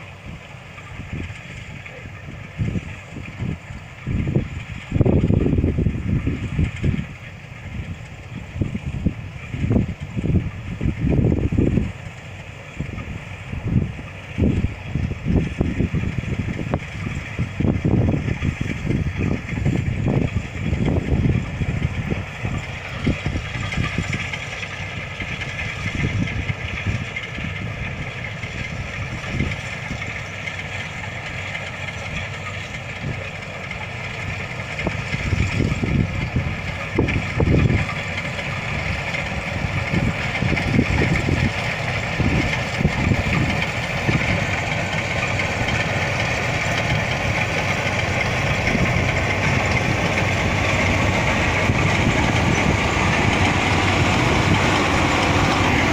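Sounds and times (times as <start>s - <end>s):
combine harvester engine running: 0.0s - 55.9s
irregular low rumble: 0.0s - 55.9s.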